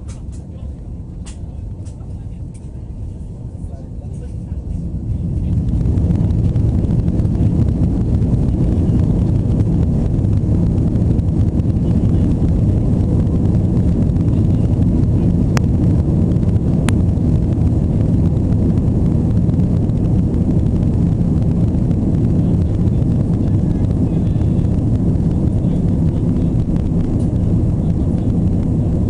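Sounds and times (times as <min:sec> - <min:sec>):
jet engine deep rumble: 0:00.0 - 0:29.0.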